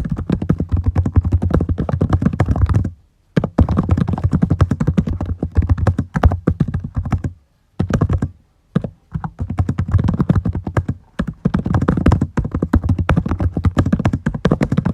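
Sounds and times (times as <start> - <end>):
typing on a computer keyboard: 0.0 - 14.9.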